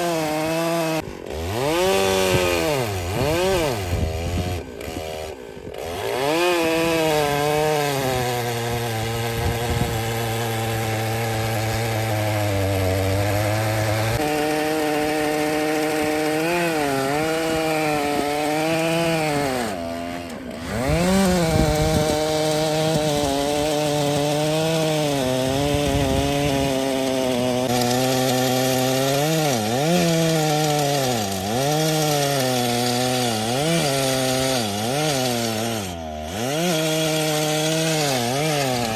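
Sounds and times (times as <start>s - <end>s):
chainsaw cutting log under load: 0.0s - 38.9s.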